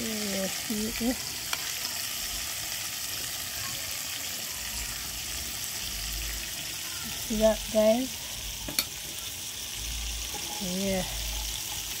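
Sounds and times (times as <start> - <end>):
pot of rice hissing: 0.0 - 12.0.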